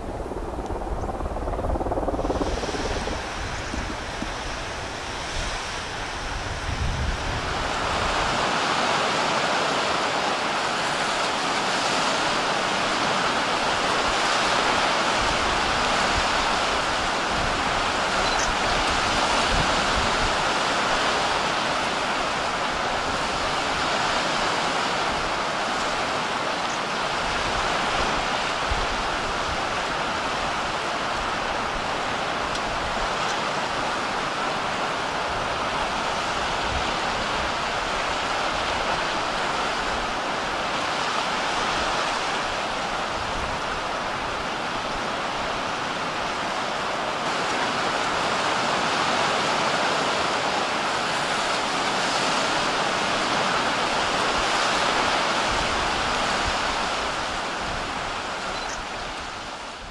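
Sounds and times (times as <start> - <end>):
sea surf rushing: 0.0 - 59.9
wind rumbling on microphone: 0.0 - 59.9.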